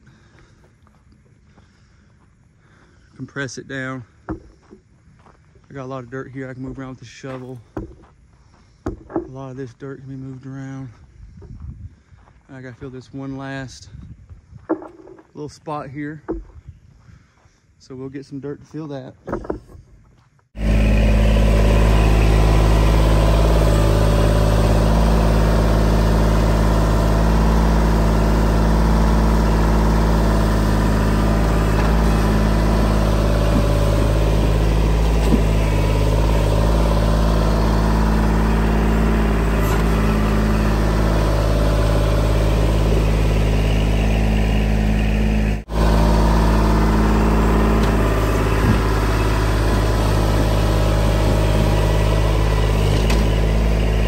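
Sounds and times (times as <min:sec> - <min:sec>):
tractor diesel engine running: 0:00.0 - 0:14.0, 0:20.5 - 0:54.0
loader bucket working dirt: 0:02.6 - 0:11.5, 0:18.7 - 0:19.9, 0:20.5 - 0:54.0.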